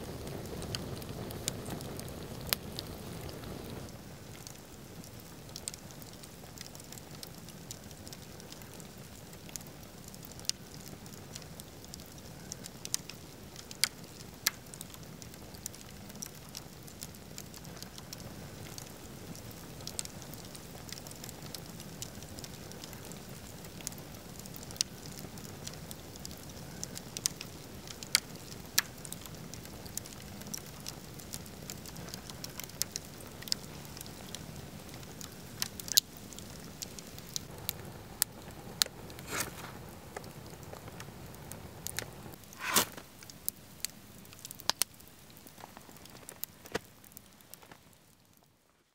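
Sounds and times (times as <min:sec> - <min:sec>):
wood fire hissing: 0:00.0 - 0:48.8
fire crackles and pops: 0:00.0 - 0:48.9.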